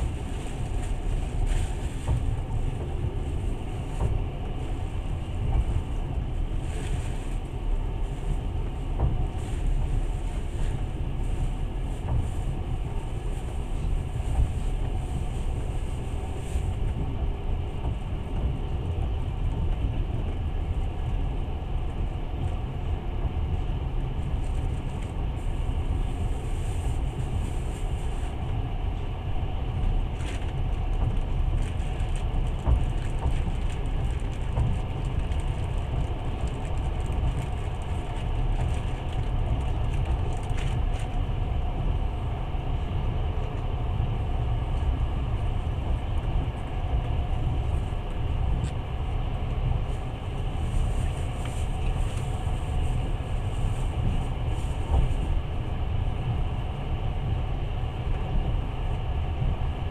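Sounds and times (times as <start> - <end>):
train wheels rumbling: 0.0 - 59.6.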